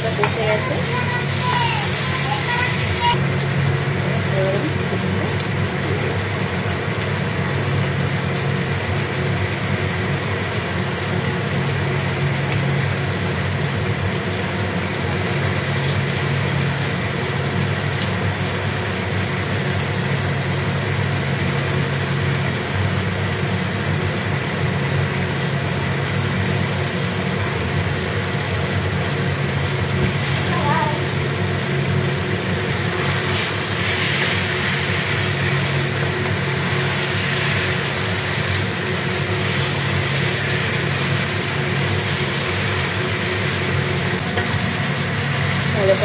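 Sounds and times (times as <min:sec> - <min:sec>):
low motor hum: 0:00.0 - 0:46.0.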